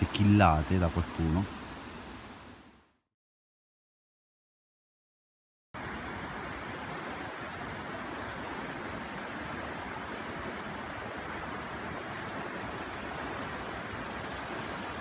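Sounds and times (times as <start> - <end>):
river current rushing: 0.0 - 3.0, 5.8 - 15.0.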